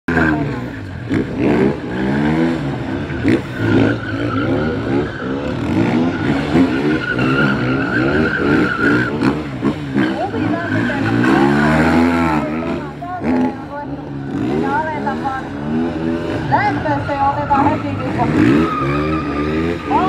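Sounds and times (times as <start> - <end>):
high tyre squeal: 0.1 - 13.6, 14.6 - 20.0
motorcycle engine revving: 0.1 - 20.0.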